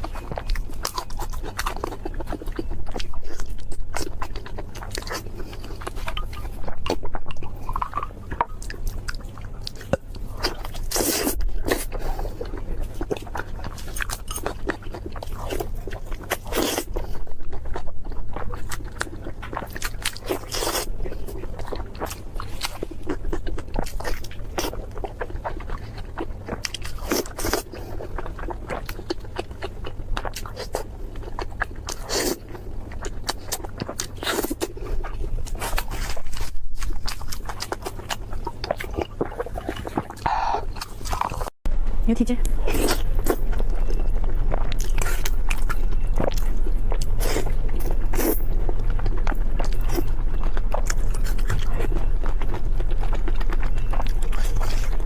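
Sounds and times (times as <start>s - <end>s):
chewing crispy food: 0.0s - 41.6s, 42.2s - 55.0s
low steady hum: 0.0s - 55.0s.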